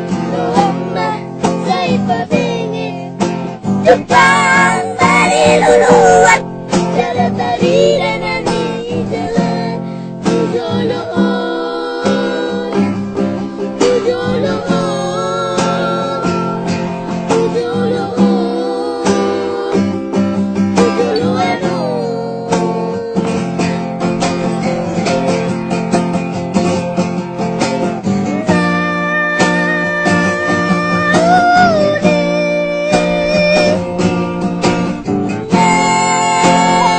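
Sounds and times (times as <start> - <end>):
acoustic guitar music: 0.0 - 36.9.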